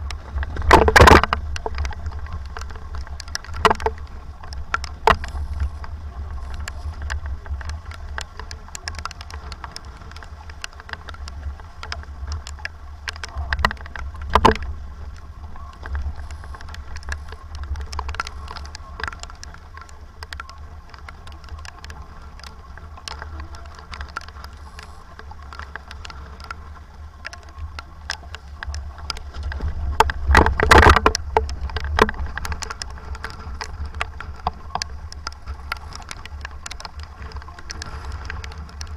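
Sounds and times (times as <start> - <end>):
low wind rumble on microphone: 0.0 - 38.9
rushing water: 0.0 - 38.9.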